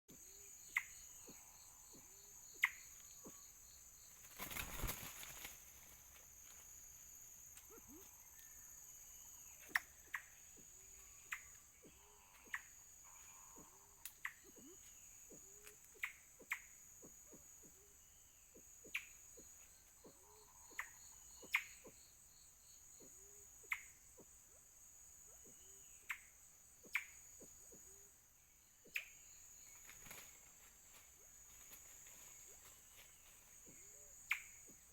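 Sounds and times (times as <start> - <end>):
high insect drone: 0.1 - 34.9.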